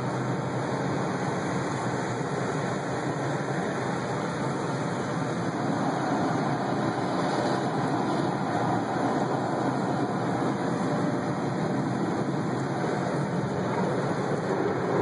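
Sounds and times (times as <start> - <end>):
car wash rushing noise: 0.0 - 15.0.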